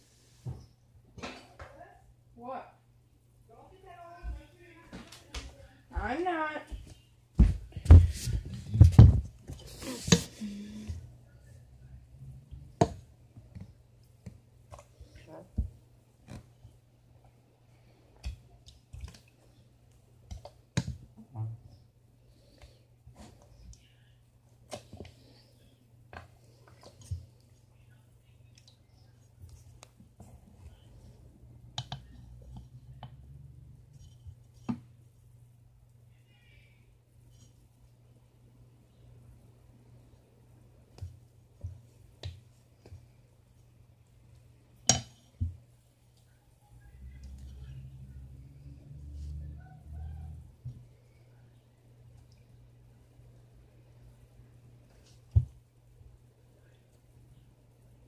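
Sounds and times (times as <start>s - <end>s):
low steady hum: 5.6s - 58.0s.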